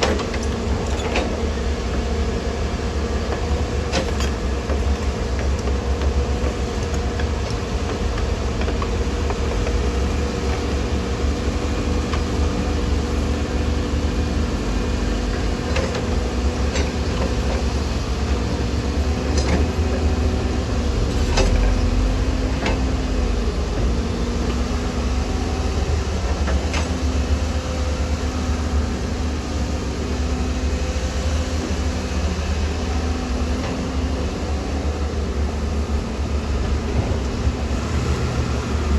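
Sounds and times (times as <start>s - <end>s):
heavy diesel engine rumble: 0.0s - 38.9s.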